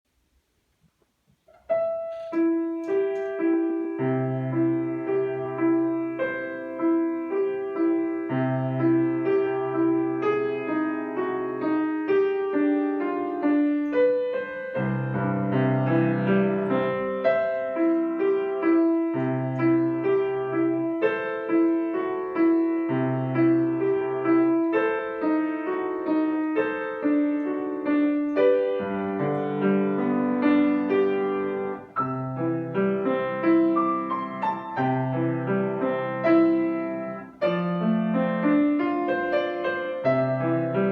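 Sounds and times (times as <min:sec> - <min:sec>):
solo piano melody: 0:00.1 - 0:40.9.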